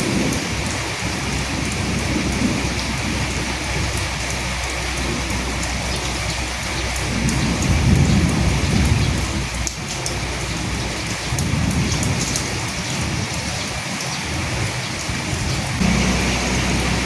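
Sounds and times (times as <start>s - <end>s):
sharp water drop ticks: 0.0s - 15.8s
steady rain falling: 0.0s - 17.0s.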